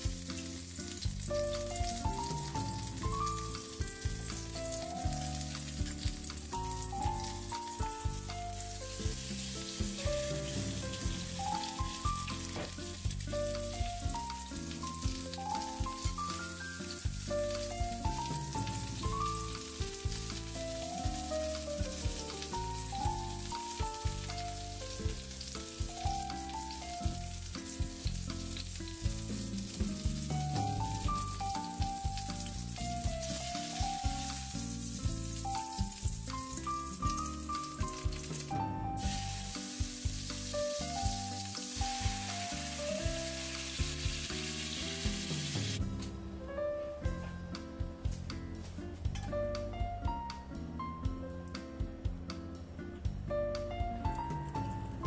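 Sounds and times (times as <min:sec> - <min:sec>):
chicken sizzling in oil: 0:00.0 - 0:45.9, 0:54.0 - 0:55.0
background music: 0:00.0 - 0:55.0.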